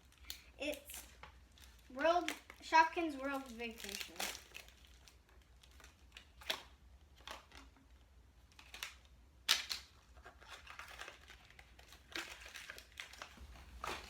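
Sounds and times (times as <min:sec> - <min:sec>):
packaging tearing and crinkling: 0:00.0 - 0:14.0.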